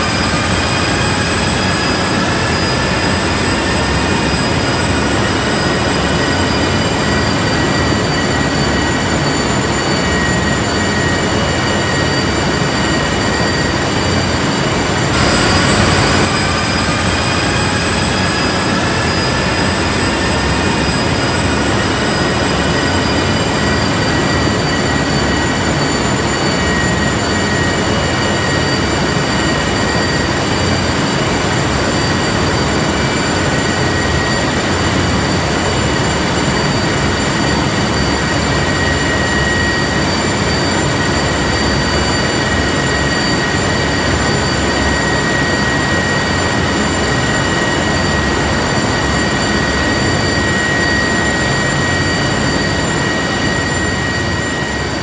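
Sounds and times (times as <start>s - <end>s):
helicopter engine whine: 0.0s - 55.0s
helicopter rotor rush: 0.0s - 55.0s.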